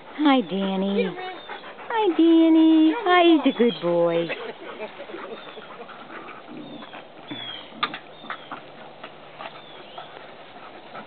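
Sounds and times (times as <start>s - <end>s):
dogs scuffling on grass: 0.1s - 11.0s.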